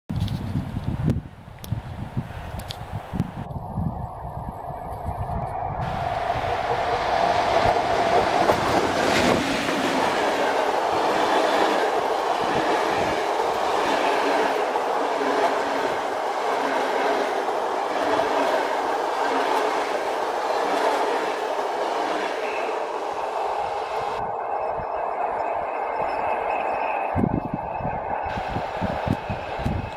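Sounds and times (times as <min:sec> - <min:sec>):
train wheels rushing on rails: 0:04.5 - 0:29.9.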